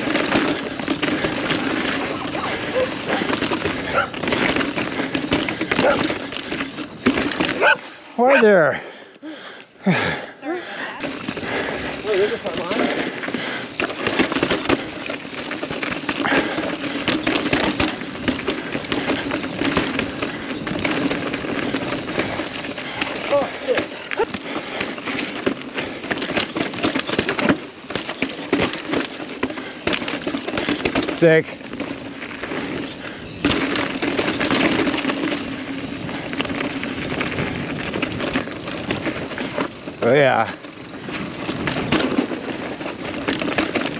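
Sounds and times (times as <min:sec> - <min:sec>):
bike tyres grinding over rock: 0:00.0 - 0:08.8, 0:09.8 - 0:43.9
bike rattling and clicking: 0:00.0 - 0:43.9.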